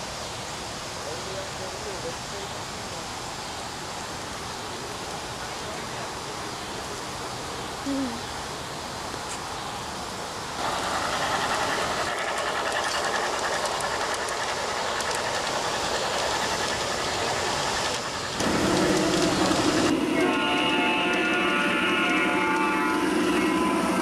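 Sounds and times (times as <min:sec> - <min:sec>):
model train rolling on rails: 0:00.0 - 0:07.8, 0:09.7 - 0:24.0.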